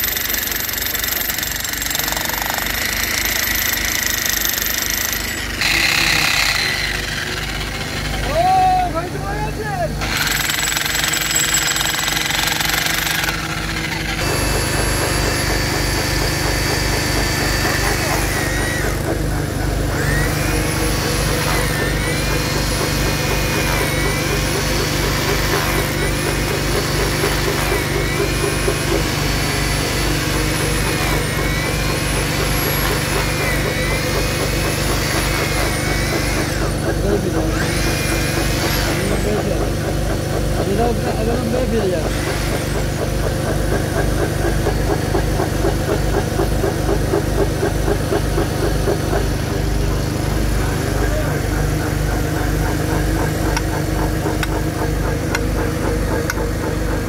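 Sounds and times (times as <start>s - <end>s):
engine running steadily: 4.8s - 57.0s.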